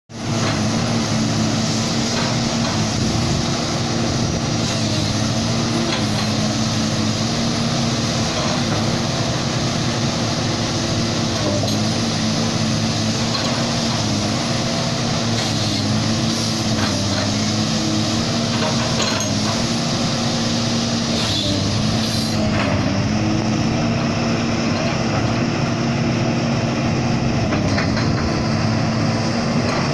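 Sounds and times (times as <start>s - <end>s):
excavator diesel engine running: 0.1s - 29.9s.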